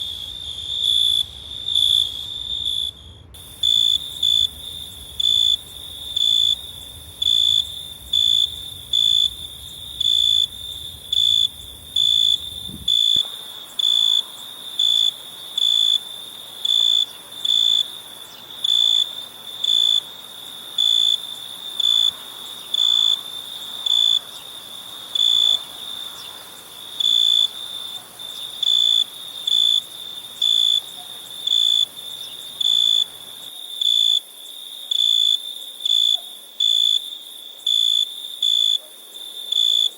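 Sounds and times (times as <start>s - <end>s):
cricket chirping: 0.0s - 39.9s
high insect hiss: 0.0s - 39.9s.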